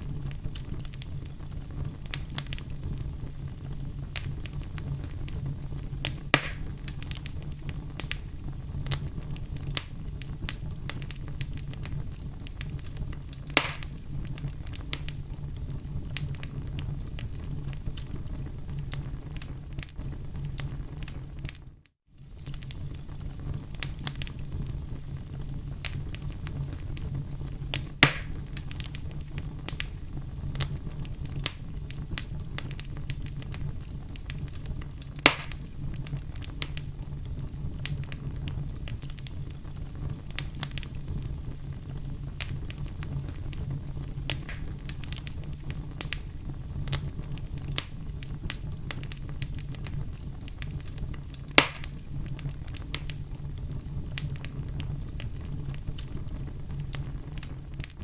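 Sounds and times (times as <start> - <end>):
loud fire pops: 0.0 - 58.0
wood fire crackling: 0.0 - 58.0.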